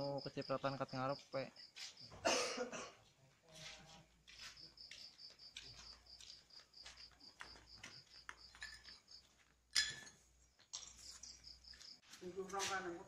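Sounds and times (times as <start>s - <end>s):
cricket chirping: 0.0s - 3.3s, 3.9s - 13.0s
footsteps: 1.1s - 2.2s, 2.9s - 13.0s.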